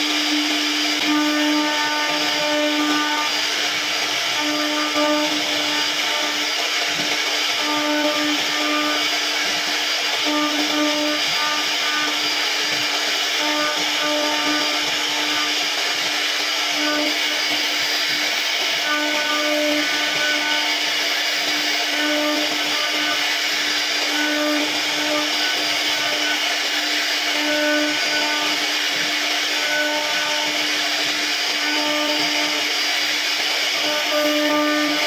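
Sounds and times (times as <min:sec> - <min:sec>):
router spindle carving wood: 0:00.0 - 0:35.0.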